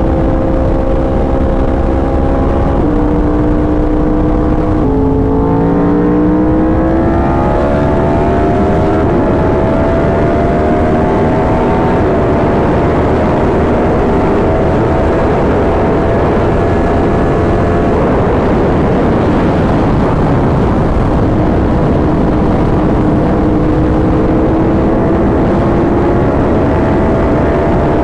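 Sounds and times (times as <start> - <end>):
motorcycle engine revving: 0.0 - 28.0
wind rush on microphone: 0.0 - 28.0.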